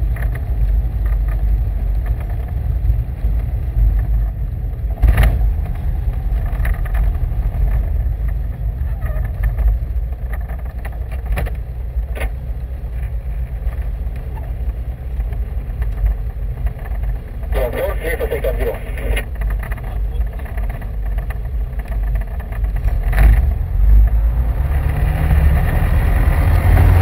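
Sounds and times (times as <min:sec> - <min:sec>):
propeller engine rumble: 0:00.0 - 0:27.0.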